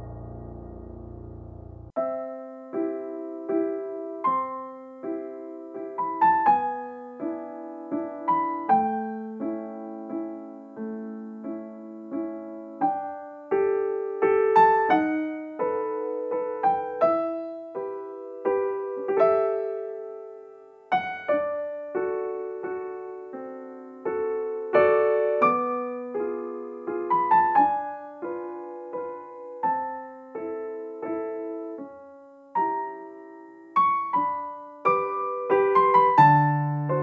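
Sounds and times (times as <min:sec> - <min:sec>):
gentle solo piano: 0:00.0 - 0:37.0.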